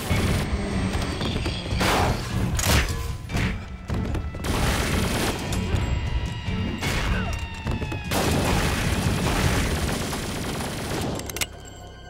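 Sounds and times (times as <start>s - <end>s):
action film music with low pulse: 0.0s - 12.0s.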